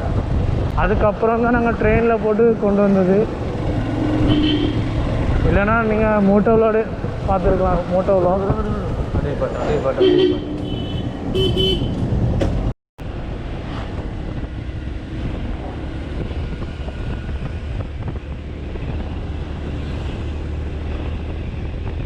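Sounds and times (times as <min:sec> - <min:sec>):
motorcycle engine and road rumble: 0:00.0 - 0:22.0
wind buffeting microphone: 0:00.0 - 0:22.0.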